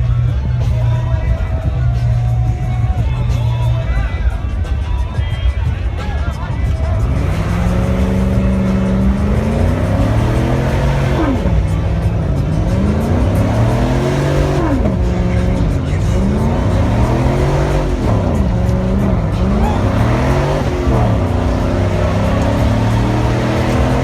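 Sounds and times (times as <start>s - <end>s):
low engine drone: 0.0s - 24.0s
truck engines revving: 0.0s - 24.0s.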